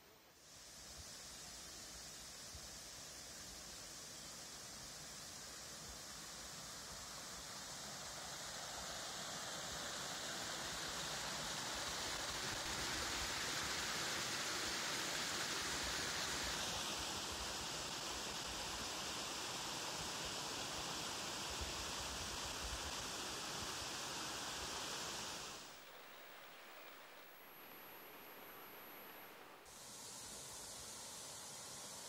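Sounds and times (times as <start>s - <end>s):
running water rushing: 0.4s - 32.0s.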